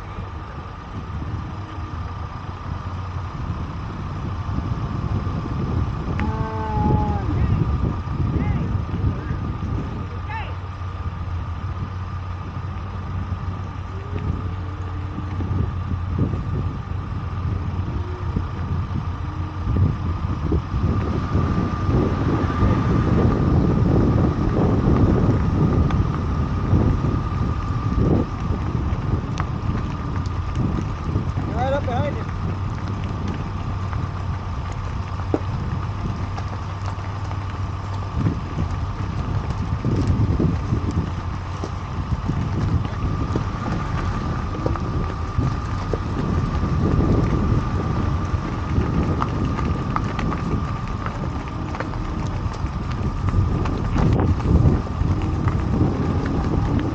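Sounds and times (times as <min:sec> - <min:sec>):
vehicle engine running: 0:00.0 - 0:56.9
wind buffeting microphone: 0:00.0 - 0:56.9.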